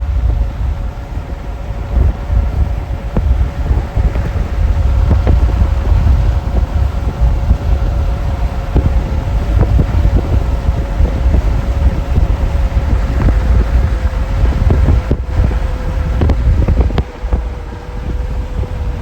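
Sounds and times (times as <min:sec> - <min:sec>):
road rumble: 0:00.0 - 0:19.0
steady hum: 0:00.0 - 0:19.0
wind buffeting the microphone: 0:00.0 - 0:19.0.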